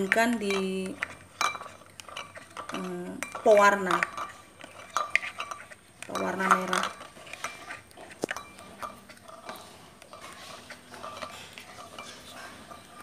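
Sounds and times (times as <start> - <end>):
spoon scraping in ceramic bowl: 0.0 - 13.0.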